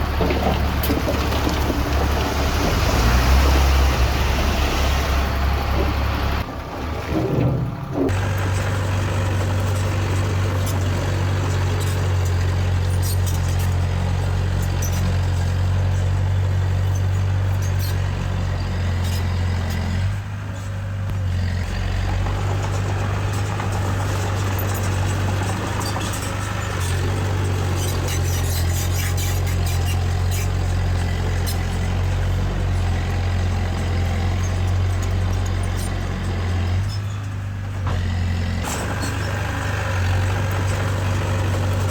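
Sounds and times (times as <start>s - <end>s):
heavy machinery diesel engine: 0.0s - 41.9s.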